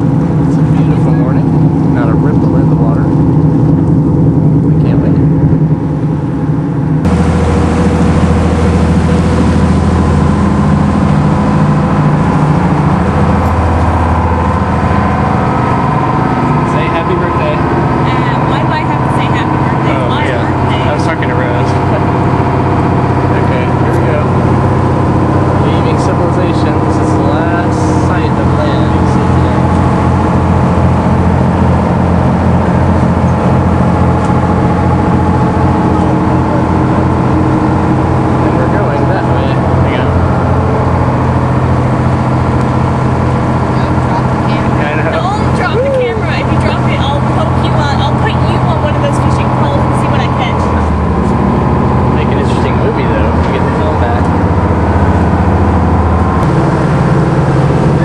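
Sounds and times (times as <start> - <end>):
boat engine drone: 0.0 - 58.0
churned water rushing: 0.0 - 58.0.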